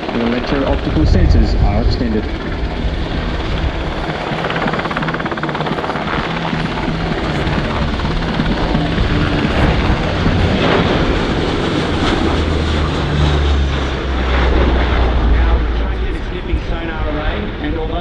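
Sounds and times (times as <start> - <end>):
aircraft engine noise: 0.0 - 18.0
helicopter rotor chop: 0.0 - 18.0.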